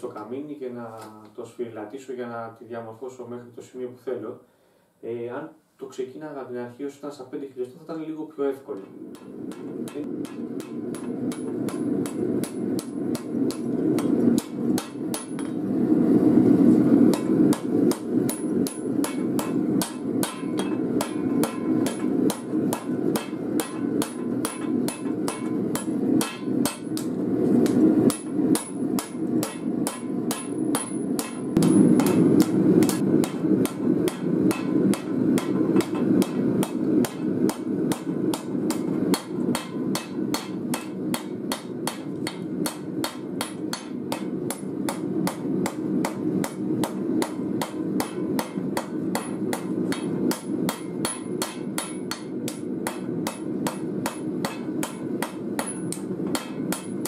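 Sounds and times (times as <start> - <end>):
gas forge rushing: 9.0 - 55.2
hammer striking steel on anvil: 9.1 - 15.6, 17.1 - 57.0.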